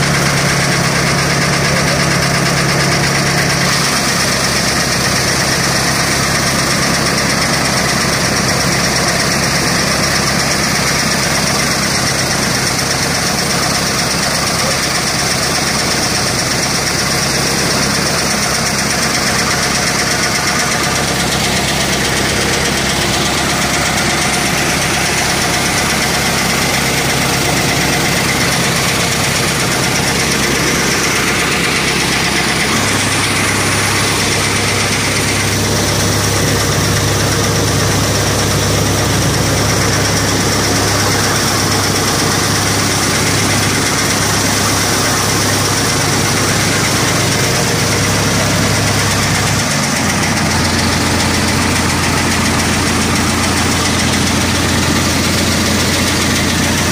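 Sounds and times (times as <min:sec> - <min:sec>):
tractor engine drone: 0:00.0 - 0:56.9.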